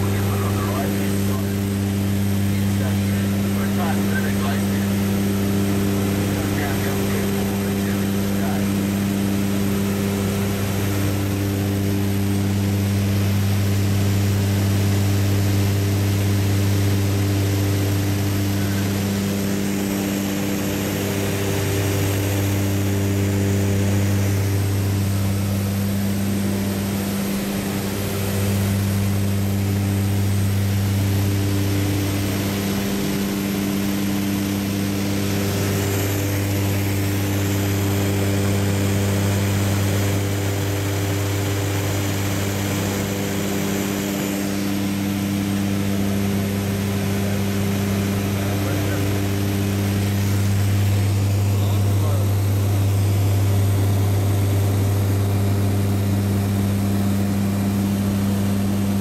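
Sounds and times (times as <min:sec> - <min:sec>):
propeller plane engine humming: 0:00.0 - 0:59.0.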